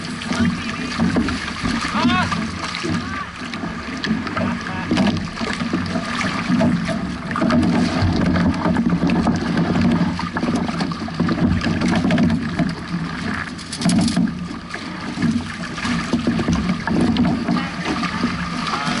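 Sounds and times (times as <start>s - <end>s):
water slapping against hull: 0.0s - 19.0s.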